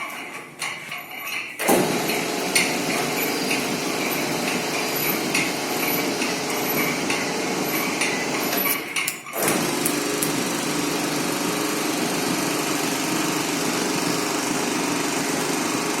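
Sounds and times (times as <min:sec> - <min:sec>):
conveyor mechanical drone: 0:01.7 - 0:08.8, 0:09.4 - 0:16.0.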